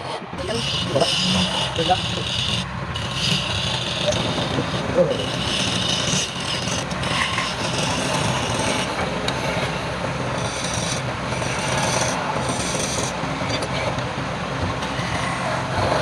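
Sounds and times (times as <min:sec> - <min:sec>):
tool rasping on spinning wood: 0:00.0 - 0:14.0, 0:14.7 - 0:16.0
wood lathe running: 0:00.0 - 0:16.0.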